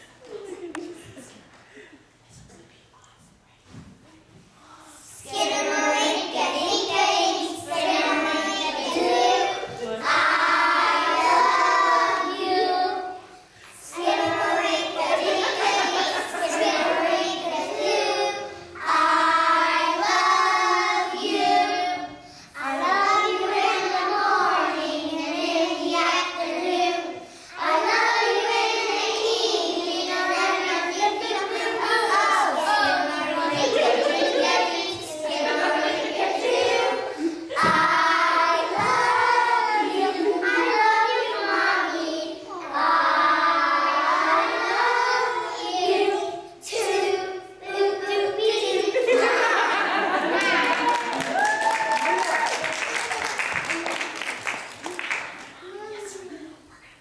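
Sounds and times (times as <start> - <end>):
children singing: 5.0 - 51.2.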